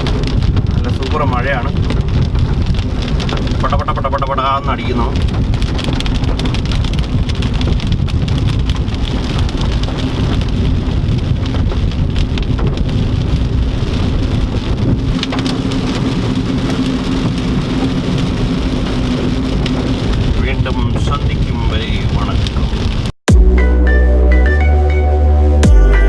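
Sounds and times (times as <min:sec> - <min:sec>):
heavy rain on a car: 0:00.0 - 0:23.2
low car drone: 0:00.0 - 0:26.0.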